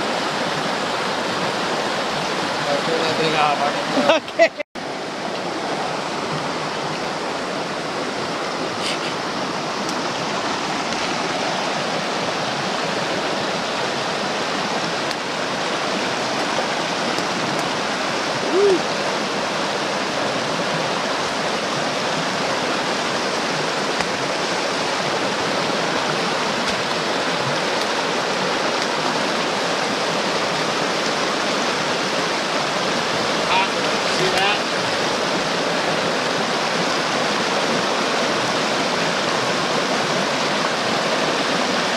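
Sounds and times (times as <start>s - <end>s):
creek rushing over rocks: 0.0s - 41.9s.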